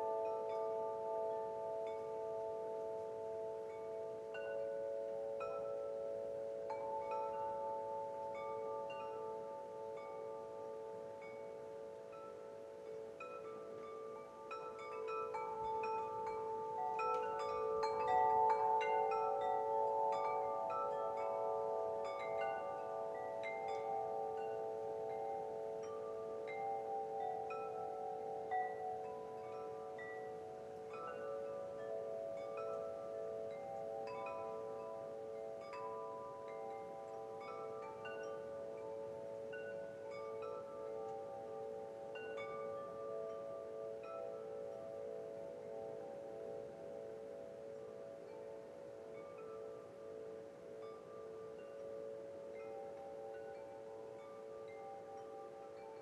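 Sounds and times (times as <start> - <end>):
wind chimes ringing: 0.0 - 56.0.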